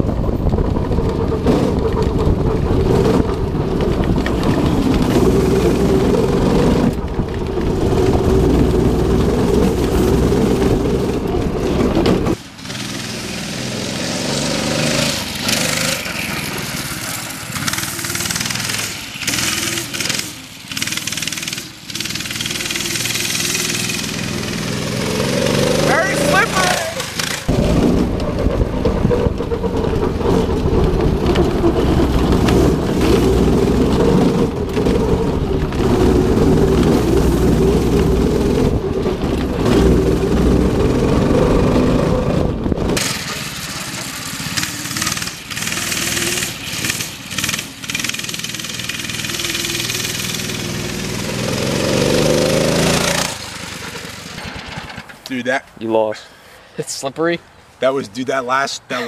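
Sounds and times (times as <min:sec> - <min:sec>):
go-kart engine at high revs: 0:00.0 - 0:55.2.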